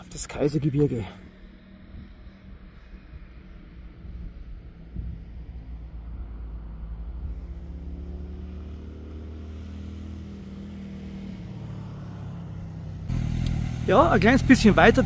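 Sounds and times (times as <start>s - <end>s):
vehicle engine droning: 0.0s - 15.0s
faint rising tone: 1.2s - 13.6s.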